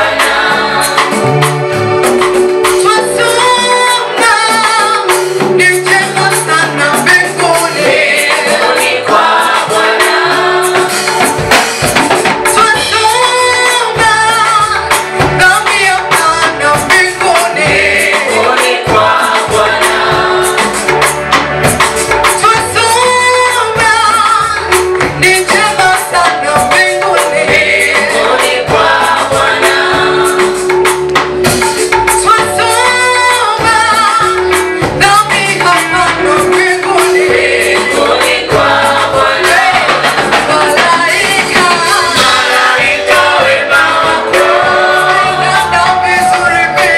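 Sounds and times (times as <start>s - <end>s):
choir singing gospel: 0.0s - 46.9s
percussion beat: 0.0s - 46.9s.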